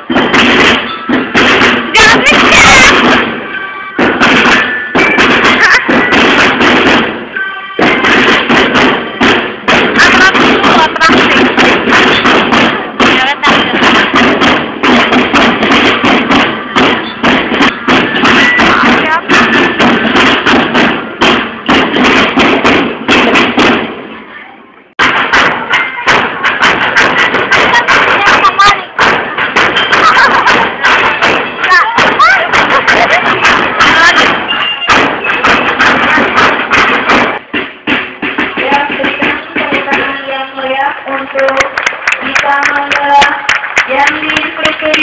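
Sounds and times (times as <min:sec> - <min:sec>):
snare and bass drums beating: 0:00.0 - 0:24.3, 0:25.0 - 0:45.0.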